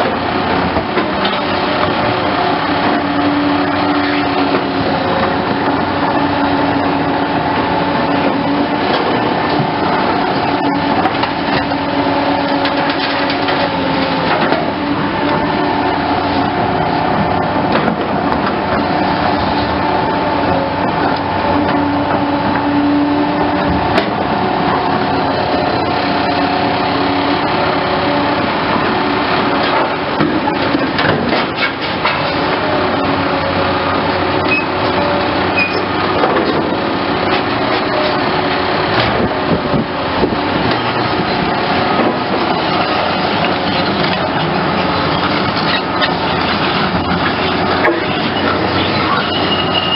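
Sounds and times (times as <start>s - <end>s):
excavator engine and hydraulics: 0.0s - 49.9s.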